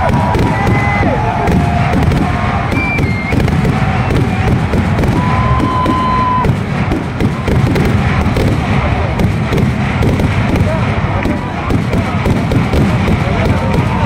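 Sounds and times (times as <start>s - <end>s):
fireworks exploding in rapid barrage: 0.0s - 14.0s.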